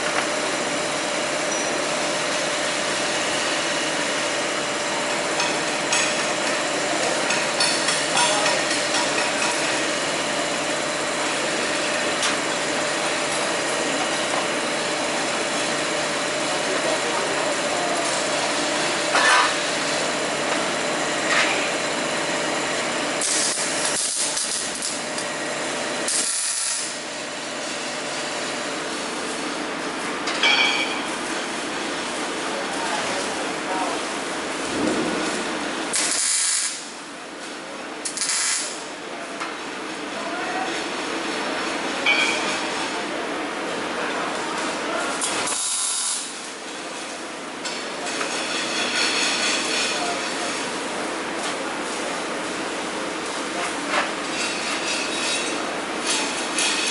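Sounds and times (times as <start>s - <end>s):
welding arc crackling and hissing: 0.0s - 29.4s, 31.2s - 39.0s, 44.3s - 56.9s.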